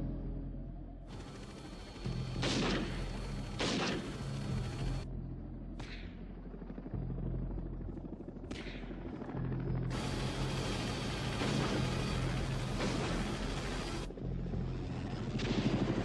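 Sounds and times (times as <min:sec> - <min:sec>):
film music: 0:00.0 - 0:16.0
helicopter noise: 0:01.1 - 0:16.0.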